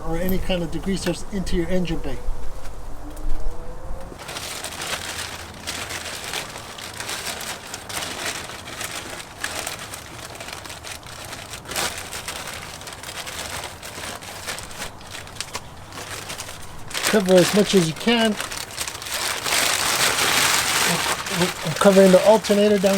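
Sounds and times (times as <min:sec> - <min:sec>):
cover crinkling and rustling: 0:04.2 - 0:22.9.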